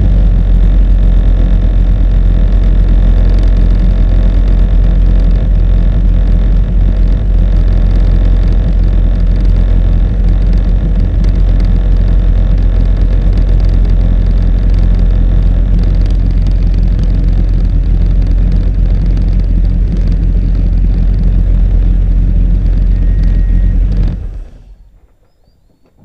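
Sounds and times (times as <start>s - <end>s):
boat engine running: 0.0s - 26.0s.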